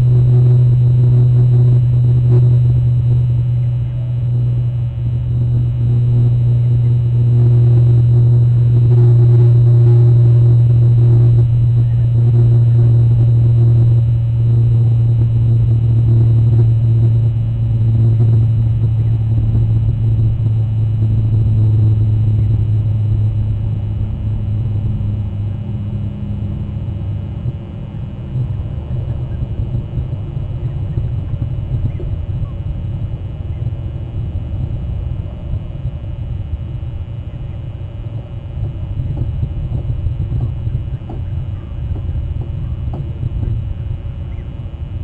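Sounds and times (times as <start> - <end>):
engine-like hum: 0.0 - 45.0
low rumble: 0.0 - 45.0.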